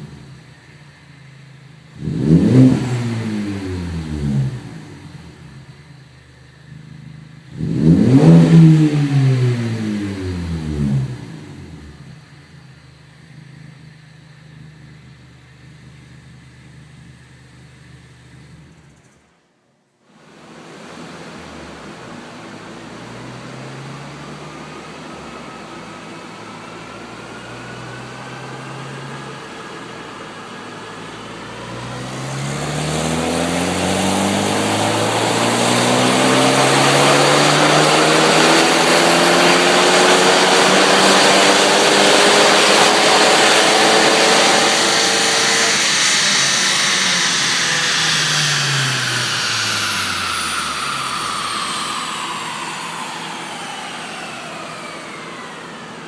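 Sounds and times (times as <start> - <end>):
car engine revving at full throttle: 0.0 - 19.0, 20.3 - 56.0.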